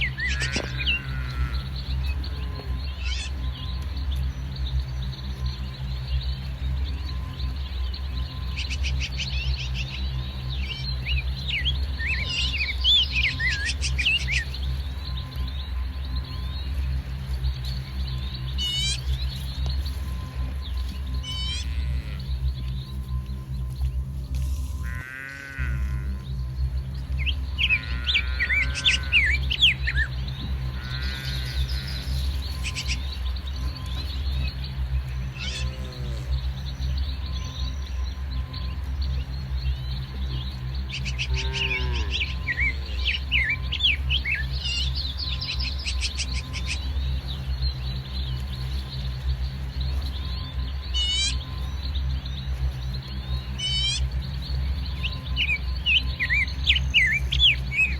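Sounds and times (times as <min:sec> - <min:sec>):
birds chirping and whistling: 0:00.0 - 0:57.9
steady low drone: 0:00.0 - 0:57.9
steady low hum: 0:00.0 - 0:57.9.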